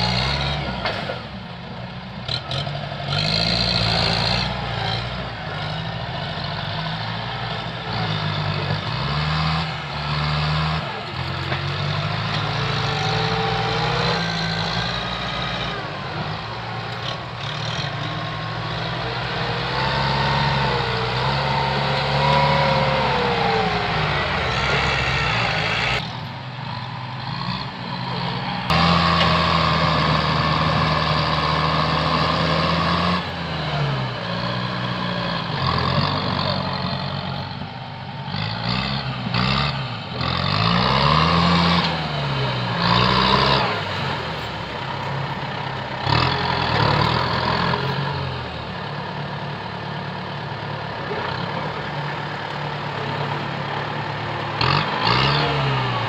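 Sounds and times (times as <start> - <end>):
tractor diesel engines under load: 0.0 - 56.0.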